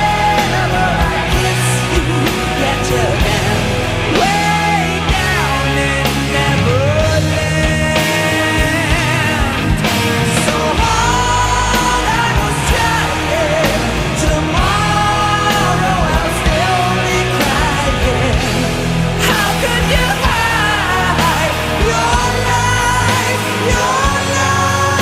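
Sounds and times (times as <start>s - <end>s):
rock song with singing: 0.0s - 25.0s.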